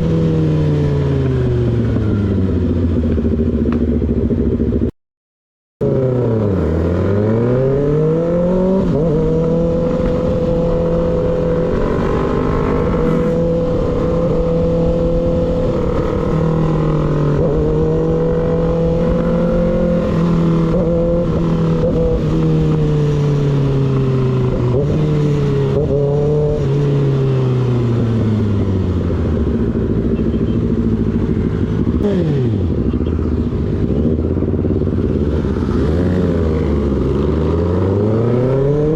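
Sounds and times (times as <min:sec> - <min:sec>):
motorcycle engine revving: 0:00.0 - 0:04.9, 0:05.8 - 0:38.9.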